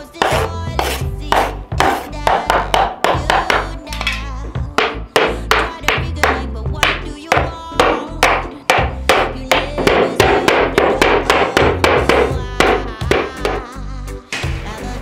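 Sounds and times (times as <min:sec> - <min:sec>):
hammer striking wooden board: 0:00.2 - 0:04.2, 0:04.8 - 0:13.7.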